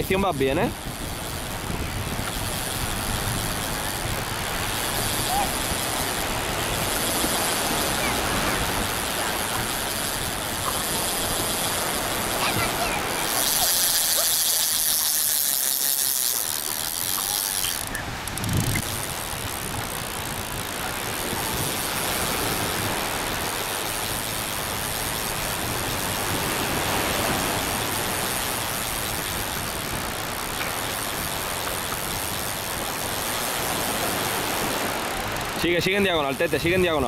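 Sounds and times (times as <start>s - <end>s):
sea waves washing on shore: 0.0s - 37.0s
wind rumbling on microphone: 0.0s - 37.0s.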